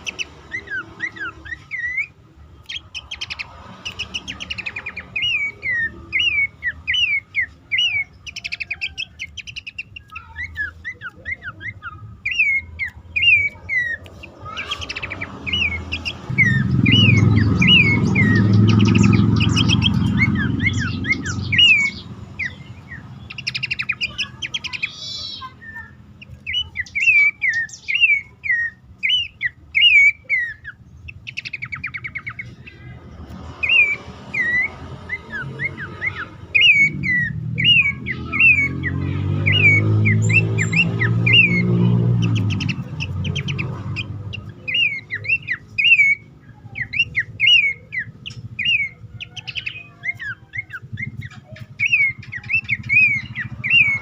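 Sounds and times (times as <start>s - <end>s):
bird whistling calls: 0.0s - 33.0s, 33.6s - 54.0s
chattering bird trills: 0.0s - 54.0s.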